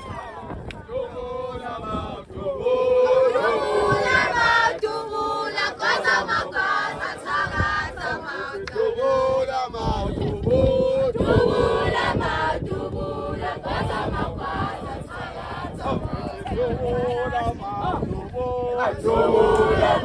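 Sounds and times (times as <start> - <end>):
crowd singing and chanting: 0.0 - 20.0.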